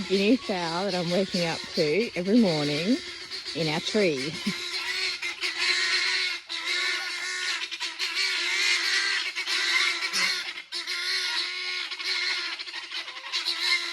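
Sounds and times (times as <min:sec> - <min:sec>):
guinea fowl calling: 0:00.0 - 0:13.9.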